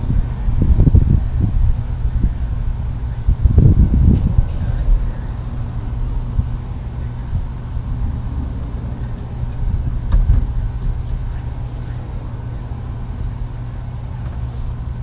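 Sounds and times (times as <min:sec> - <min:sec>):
faint hum: 0:00.0 - 0:15.0
low engine rumble: 0:00.0 - 0:15.0.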